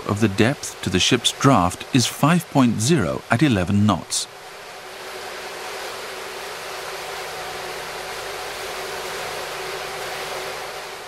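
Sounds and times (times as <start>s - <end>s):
faint steady hum: 0.0s - 11.0s
water rushing and splashing: 0.0s - 11.0s.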